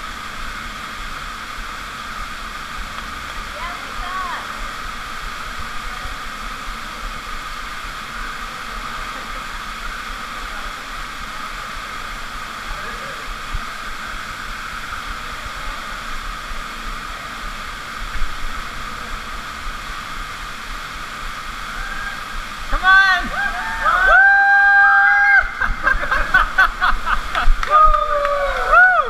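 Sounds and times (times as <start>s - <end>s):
waterfall pouring into rock pool: 0.0s - 29.0s.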